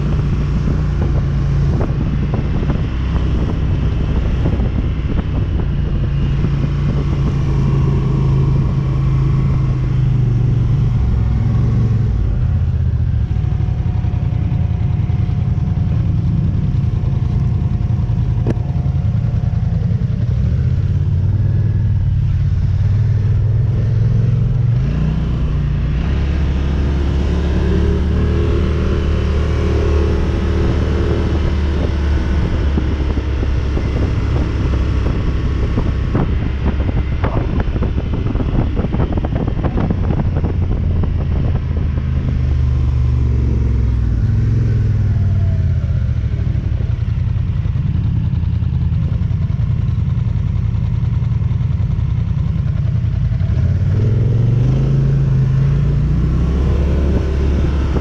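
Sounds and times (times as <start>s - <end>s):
atv engine revving: 0.0s - 41.2s, 50.8s - 58.0s.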